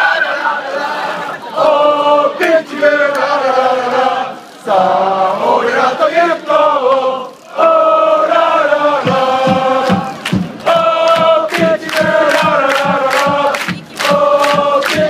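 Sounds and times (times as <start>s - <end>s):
crowd singing a chant: 0.0s - 15.0s.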